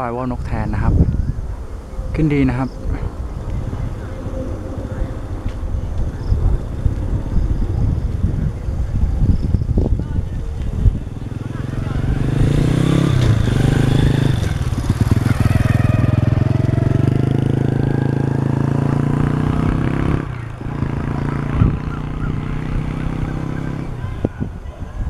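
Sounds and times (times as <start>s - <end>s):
kite hummer droning in wind: 0.0s - 25.0s.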